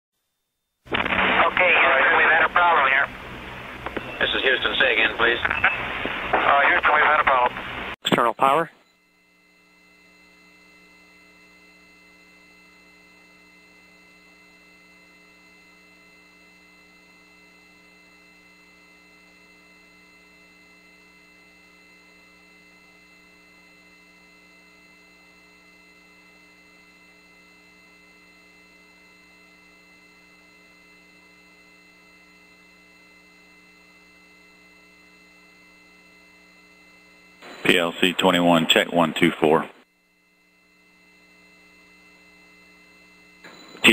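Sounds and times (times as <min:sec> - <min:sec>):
faint electrical hum: 0:00.9 - 0:43.9.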